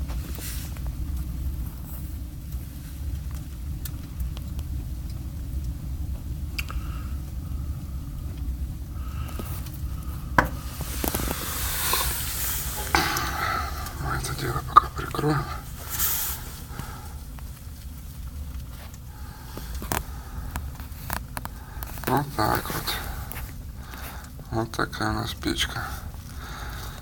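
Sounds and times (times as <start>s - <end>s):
fire hissing: 0.0s - 24.6s, 25.5s - 27.0s
fire crackles: 0.0s - 27.0s
stove fire low rumble: 0.0s - 27.0s.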